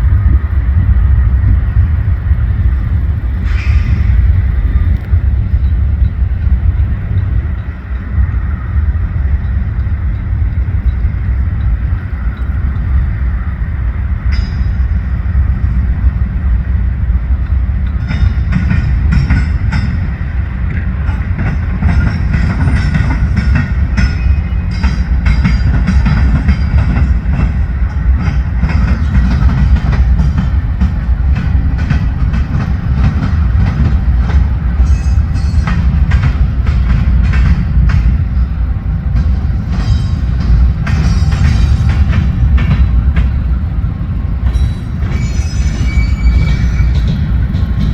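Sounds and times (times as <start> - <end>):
train rumbling past: 0.0 - 47.9
wheels clicking over rail joints: 0.7 - 47.9.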